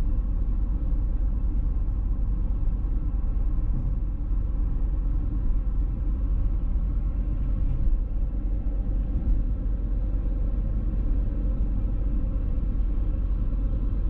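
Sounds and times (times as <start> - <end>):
car cruising road noise: 0.0 - 14.0.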